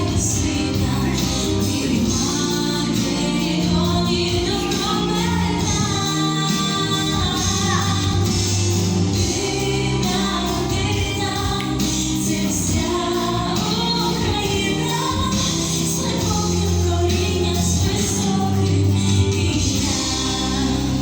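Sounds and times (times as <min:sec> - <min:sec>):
woman singing with accompaniment: 0:00.0 - 0:21.0.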